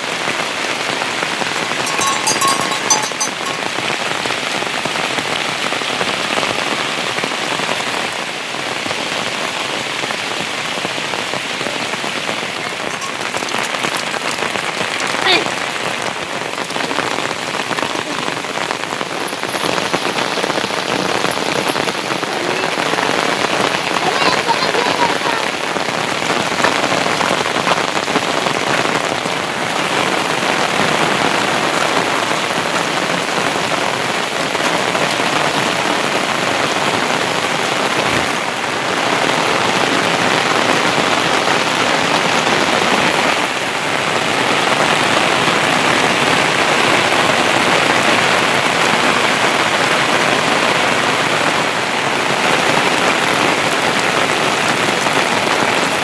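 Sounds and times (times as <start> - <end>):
heavy rain on ground: 0.0 - 56.0.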